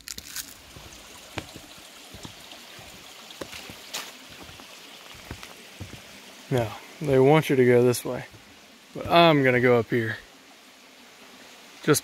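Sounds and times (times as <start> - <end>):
stream running: 0.0 - 12.0.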